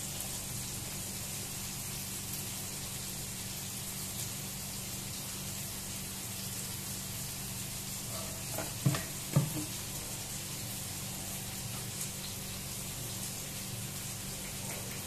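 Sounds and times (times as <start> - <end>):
onions sizzling in oil: 0.0 - 15.0.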